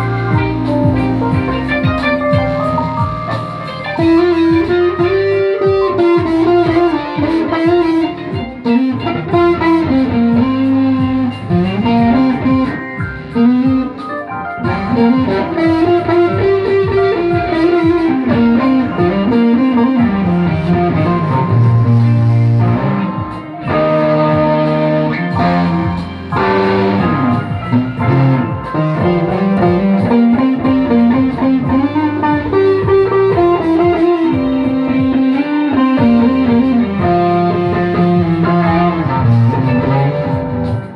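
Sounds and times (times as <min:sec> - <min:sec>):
electric guitar music: 0:00.0 - 0:40.9.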